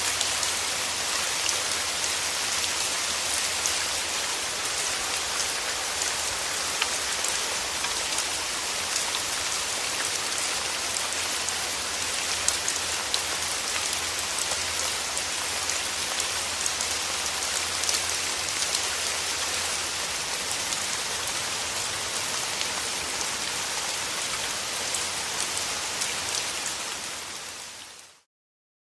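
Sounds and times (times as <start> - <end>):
rain on a hard surface: 0.0 - 28.3.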